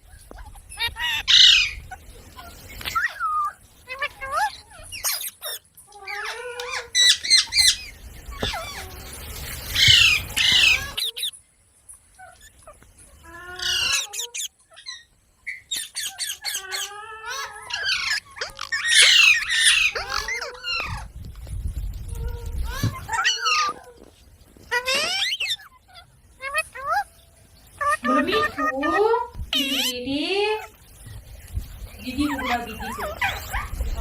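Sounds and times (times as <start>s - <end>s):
parakeet chattering and squawking: 0.1s - 11.4s, 12.2s - 21.1s, 22.0s - 24.0s, 24.6s - 34.0s.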